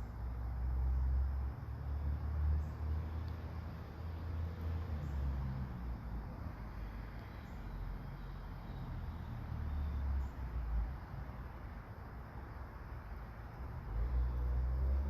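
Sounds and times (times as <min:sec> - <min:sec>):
light rain hiss: 0:00.1 - 0:15.0.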